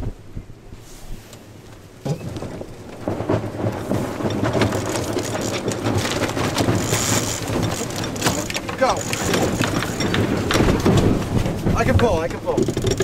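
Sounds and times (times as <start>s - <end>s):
wind buffeting microphone: 0.0s - 13.0s
dense crackle of clicks: 1.4s - 13.0s.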